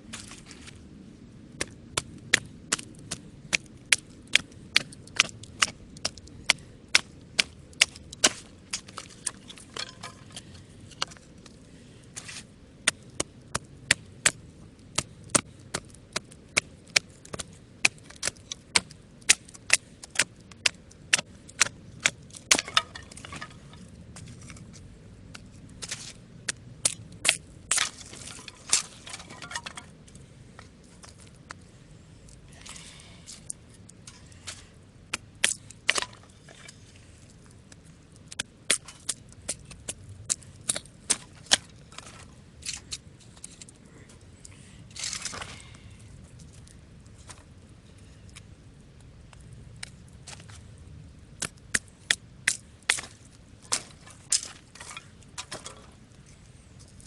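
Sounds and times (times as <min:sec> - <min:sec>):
campfire crackling and popping: 0:00.0 - 0:57.0
low steady rumble: 0:00.0 - 0:57.0.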